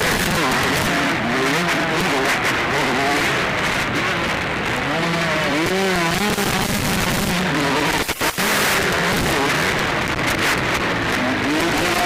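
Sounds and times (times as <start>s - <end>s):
harsh microphone noise: 0.0s - 12.0s
motocross engines revving: 0.0s - 12.0s.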